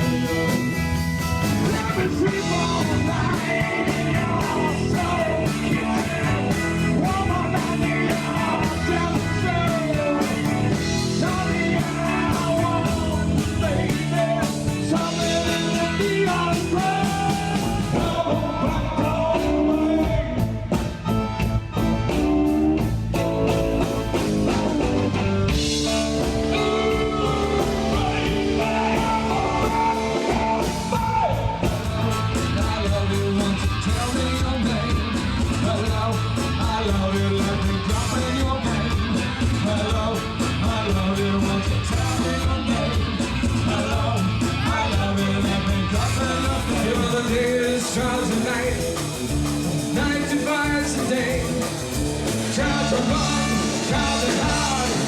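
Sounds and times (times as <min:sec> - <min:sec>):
rock band playing: 0:00.0 - 0:55.0
person singing: 0:01.5 - 0:20.9, 0:25.7 - 0:55.0.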